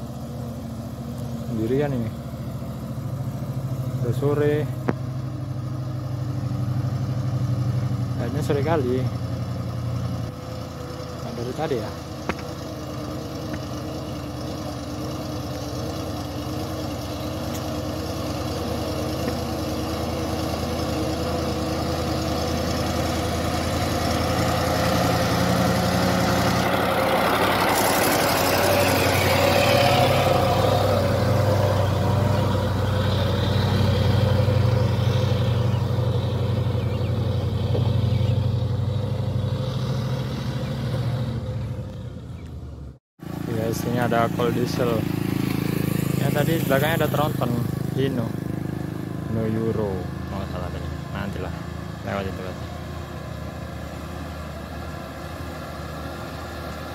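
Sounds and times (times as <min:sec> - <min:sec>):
diesel truck engine passing: 0:00.0 - 0:56.9.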